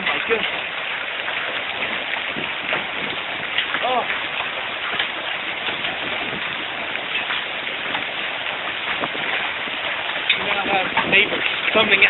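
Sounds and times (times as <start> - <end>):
hail clattering: 0.0 - 12.0.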